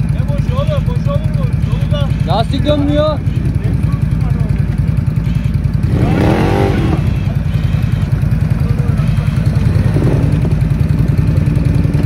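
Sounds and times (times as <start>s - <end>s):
engine idling low rumble: 0.0s - 12.0s.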